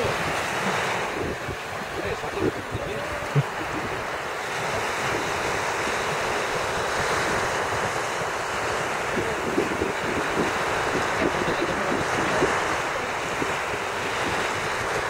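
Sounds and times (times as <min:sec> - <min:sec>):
small waves washing on shore: 0:00.0 - 0:15.0
wind buffeting microphone: 0:00.0 - 0:15.0.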